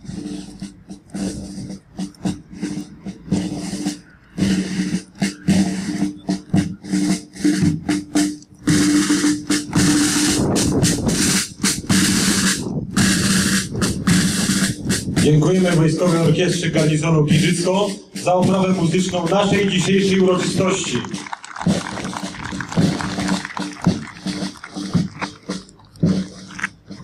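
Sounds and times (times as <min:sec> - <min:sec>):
brass band playing march: 0:00.0 - 0:27.0.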